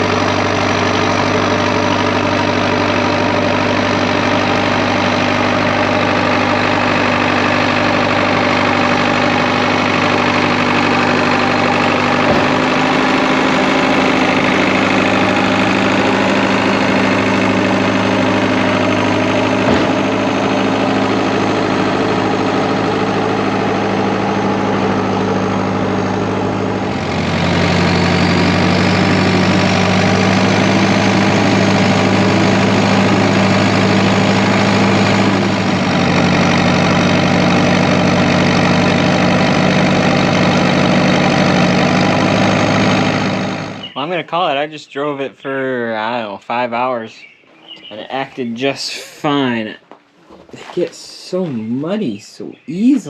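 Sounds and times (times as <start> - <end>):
bulldozer diesel engine running: 0.0 - 44.7.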